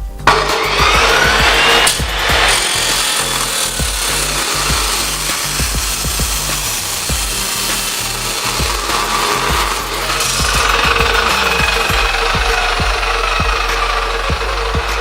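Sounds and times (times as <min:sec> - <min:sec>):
background music: 0:00.0 - 0:15.0
cut-off saw grinding metal: 0:00.2 - 0:15.0.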